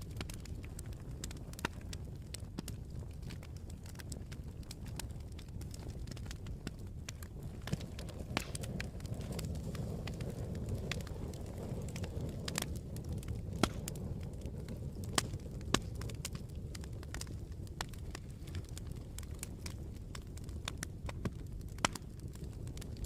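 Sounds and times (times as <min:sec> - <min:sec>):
campfire flames rumbling: 0:00.0 - 0:23.0
fire crackling and popping: 0:00.0 - 0:23.0.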